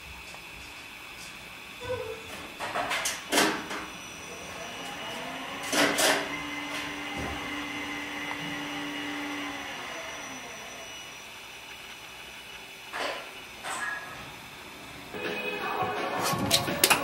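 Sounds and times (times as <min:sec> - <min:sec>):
elevator motor hum: 0:01.0 - 0:17.0.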